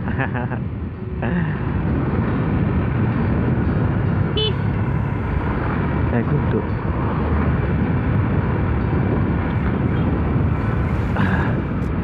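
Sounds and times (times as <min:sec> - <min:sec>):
motorcycle road and engine noise: 0:00.0 - 0:12.0
wind rush on microphone: 0:00.0 - 0:12.0.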